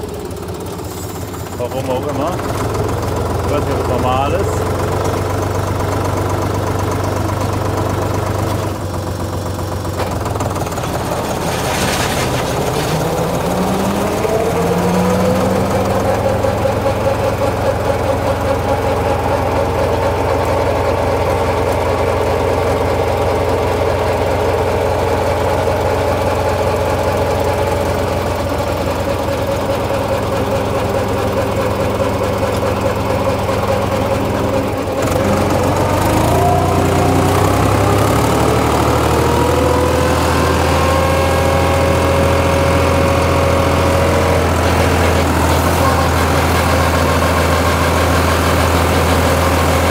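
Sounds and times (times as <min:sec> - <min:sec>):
mower rising whine: 0:00.0 - 0:49.9
tractor diesel engine running: 0:00.0 - 0:49.9.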